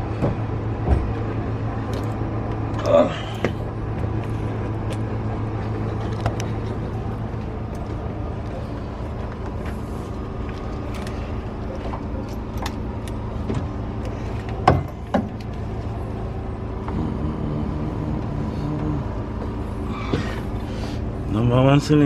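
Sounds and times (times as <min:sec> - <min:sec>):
mechanical engine drone: 0:00.0 - 0:22.0.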